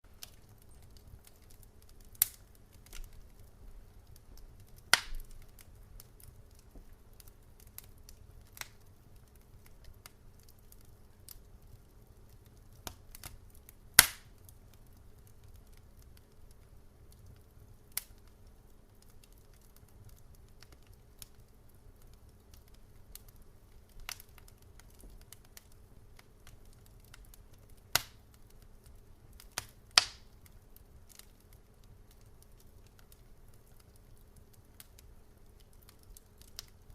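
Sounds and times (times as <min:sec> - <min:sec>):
campfire crackling: 0:00.0 - 0:36.9
faint low background noise: 0:00.0 - 0:36.9.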